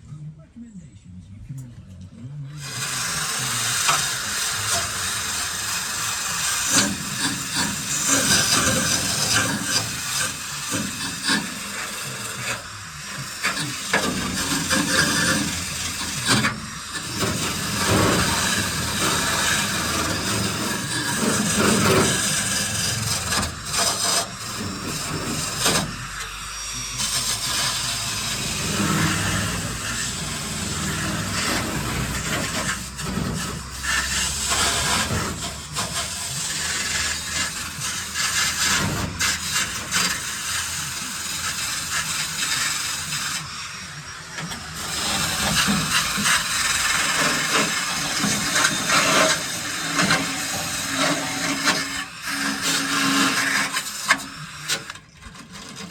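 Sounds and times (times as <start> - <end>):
power tool cutting sheet steel: 2.5 - 55.9.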